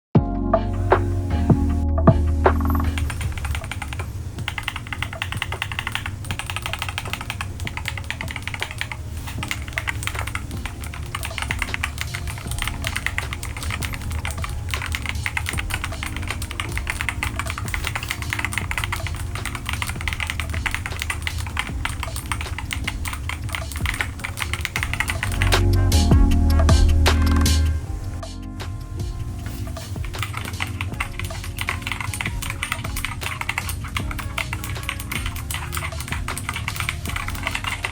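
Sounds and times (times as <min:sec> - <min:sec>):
fast keyboard typing: 0:02.6 - 0:27.7, 0:29.4 - 0:37.9.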